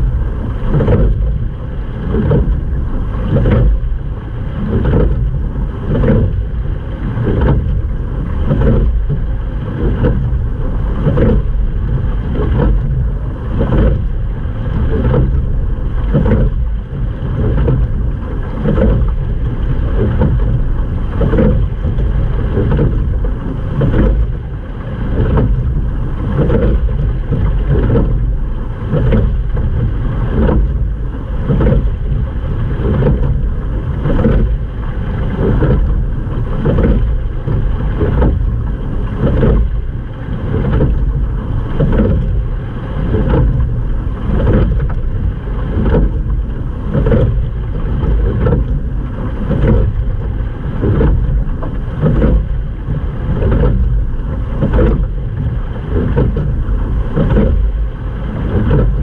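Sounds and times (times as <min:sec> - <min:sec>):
water washing along boat hull: 0:00.0 - 0:59.0
wind buffeting microphone: 0:00.0 - 0:59.0.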